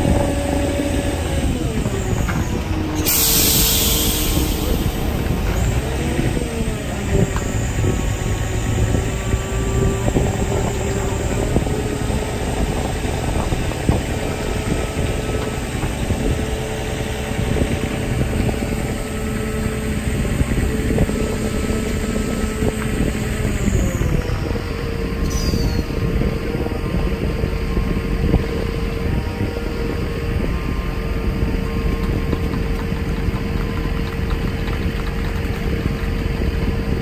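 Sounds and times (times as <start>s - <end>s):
engine running with whine: 0.0s - 37.0s
wind rumble on microphone: 0.0s - 37.0s.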